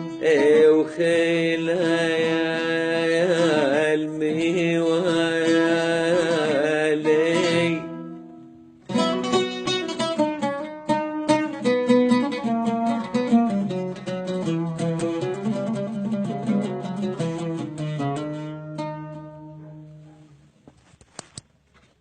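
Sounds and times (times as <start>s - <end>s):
ornamented melodic vocal line: 0.0s - 20.3s
plucked string instrument: 0.0s - 20.5s.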